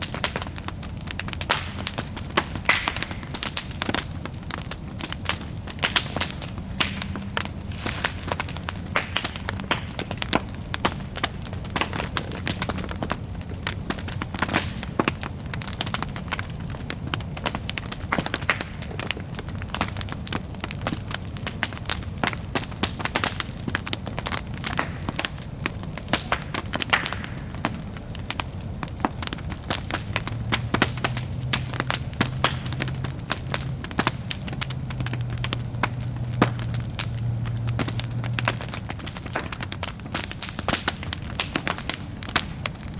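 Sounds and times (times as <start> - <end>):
bonfire crackling and popping: 0.0 - 42.9.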